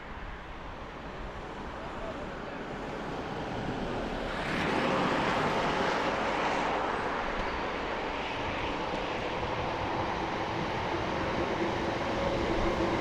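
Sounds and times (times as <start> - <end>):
passenger train running: 0.0 - 13.0.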